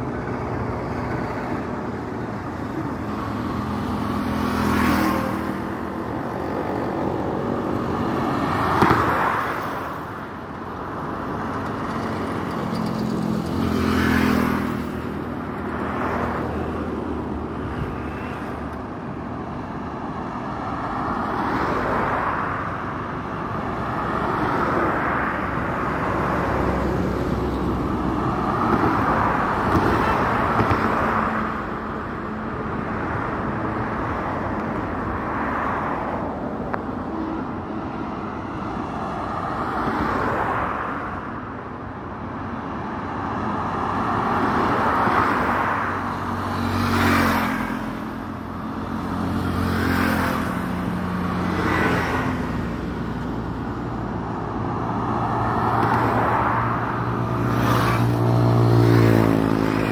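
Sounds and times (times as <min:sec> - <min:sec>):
cars and motorbikes passing: 0:00.0 - 0:59.9.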